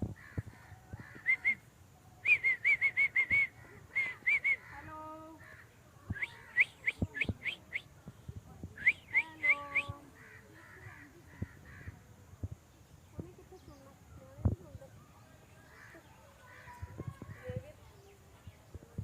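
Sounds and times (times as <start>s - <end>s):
birds calling: 0.0s - 8.0s, 8.8s - 19.0s.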